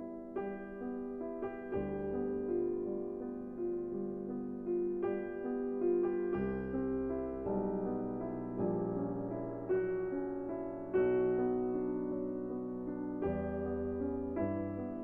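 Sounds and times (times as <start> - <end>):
gentle lo-fi piano music: 0.0 - 15.0.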